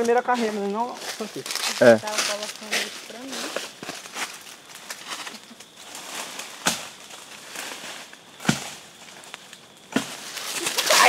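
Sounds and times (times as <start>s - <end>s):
rustling of dry leaves and brush: 0.0s - 11.0s.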